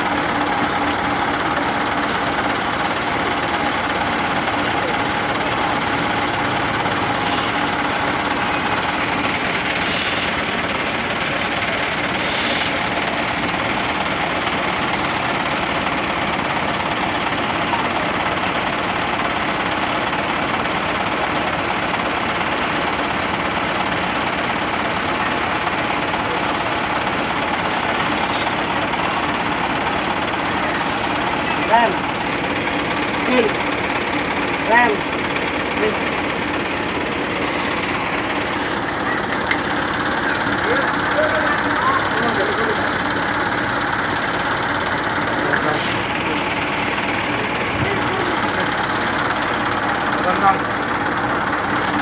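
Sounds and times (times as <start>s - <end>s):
bus diesel engine idling: 0.0s - 52.0s.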